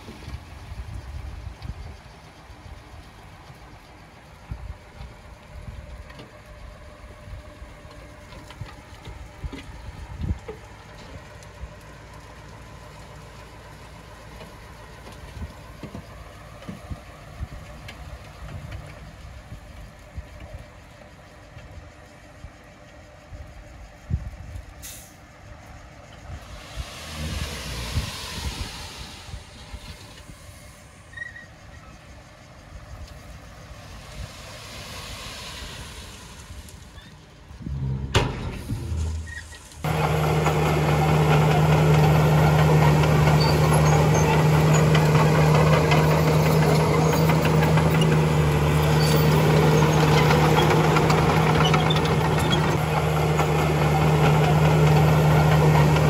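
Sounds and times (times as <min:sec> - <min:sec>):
diesel machinery rumbling: 0:00.0 - 0:56.0.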